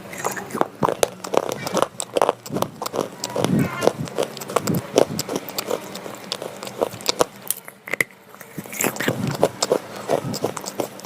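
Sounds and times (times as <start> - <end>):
pencil being chewed crunching: 0.0 - 11.0.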